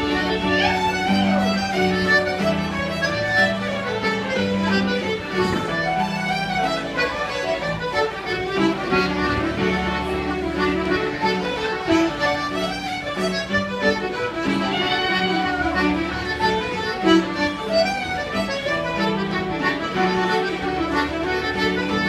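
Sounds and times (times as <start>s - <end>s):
accordion: 0.0s - 22.0s
fiddles playing a reel: 0.0s - 22.0s
low accompaniment: 0.0s - 22.0s.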